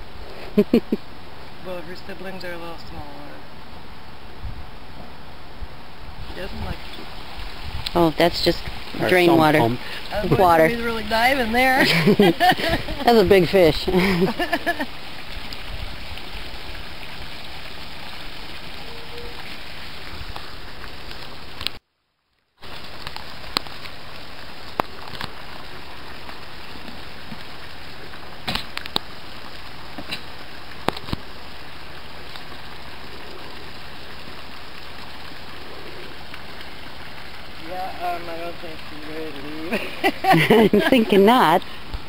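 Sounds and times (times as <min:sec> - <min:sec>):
running drain water: 0:06.2 - 0:21.6, 0:22.7 - 0:42.0.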